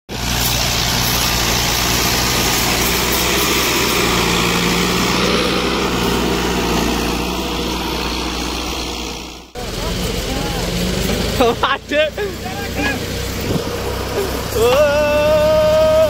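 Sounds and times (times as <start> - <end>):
tractor diesel engine under load: 0.1 - 16.0.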